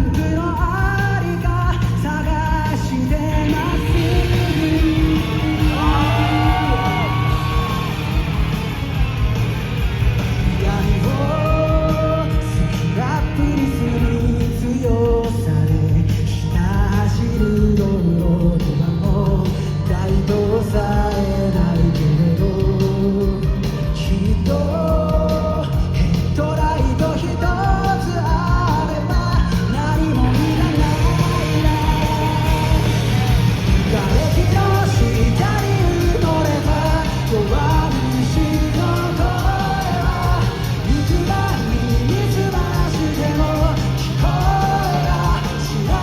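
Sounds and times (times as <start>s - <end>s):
person singing: 0.0s - 9.2s, 10.2s - 46.0s
live pop-rock band playing: 0.0s - 46.0s.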